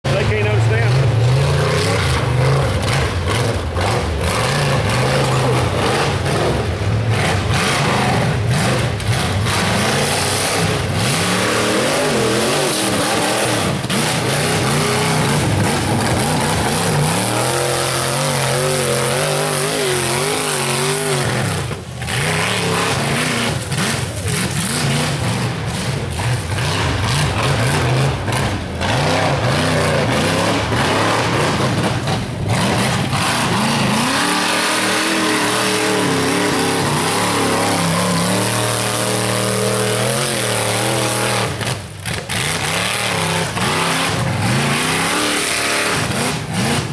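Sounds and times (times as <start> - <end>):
buggy engine revving hard: 0.0 - 46.9.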